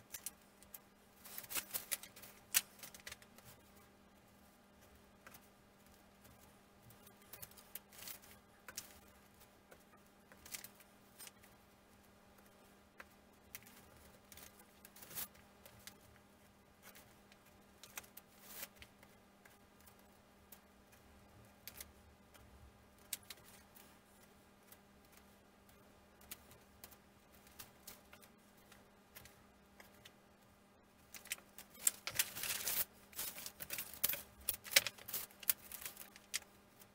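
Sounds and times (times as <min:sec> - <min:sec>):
low steady hum: 0:00.0 - 0:36.9.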